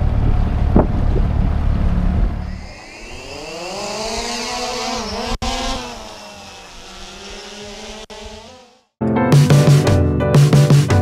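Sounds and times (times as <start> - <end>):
drone propellers whining: 0.0 - 9.0.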